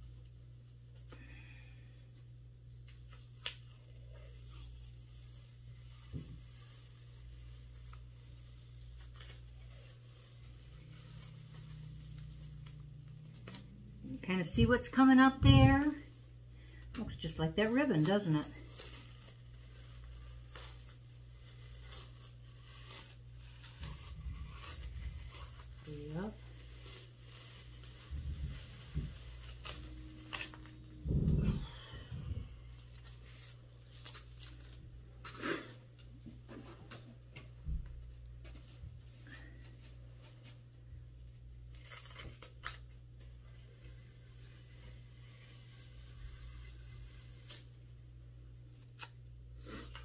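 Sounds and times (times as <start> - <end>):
steady low hum: 0.0 - 41.7.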